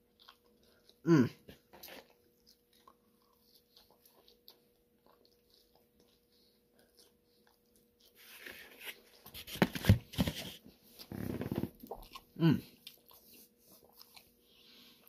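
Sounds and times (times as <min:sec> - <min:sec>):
person chewing: 0:00.0 - 0:09.6, 0:10.2 - 0:15.0.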